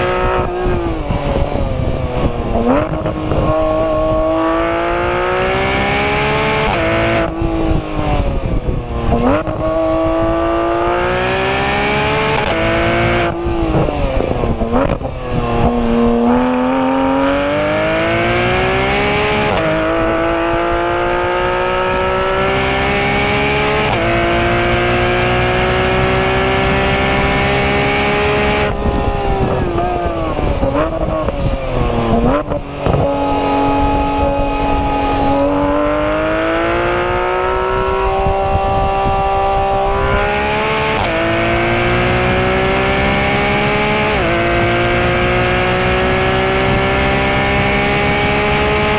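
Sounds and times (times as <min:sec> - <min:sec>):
sports car engine revving: 0:00.0 - 0:48.9.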